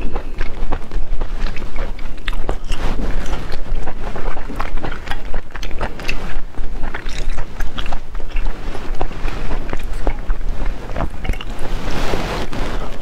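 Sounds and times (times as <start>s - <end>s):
wet mouth clicks and smacks: 0.0s - 11.7s.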